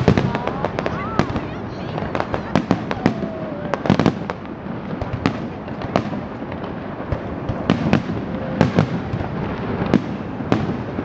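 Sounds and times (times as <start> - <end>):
fireworks sharp bangs: 0.0 - 11.0
fireworks show background noise: 0.0 - 11.0.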